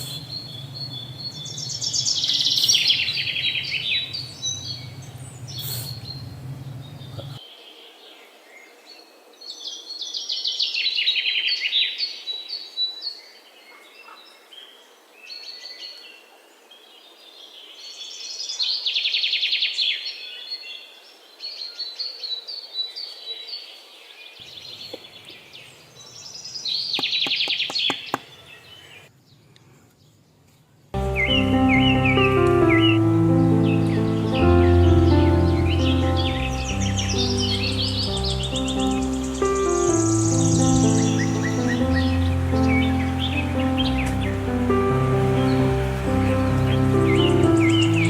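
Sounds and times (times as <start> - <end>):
small birds chirping and twittering: 0.0 - 48.0.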